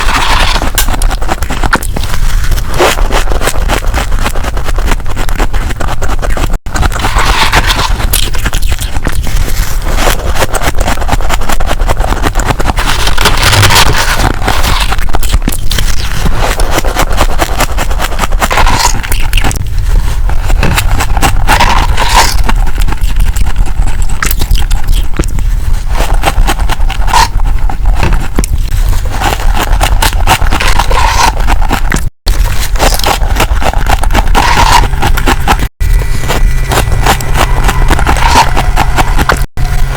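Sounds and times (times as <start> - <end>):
frost being scraped and crunched: 0.0 - 39.9.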